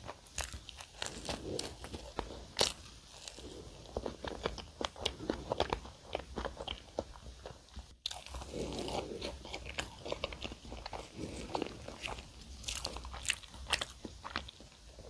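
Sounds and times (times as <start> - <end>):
pastry crackling while chewed: 0.0 - 15.0.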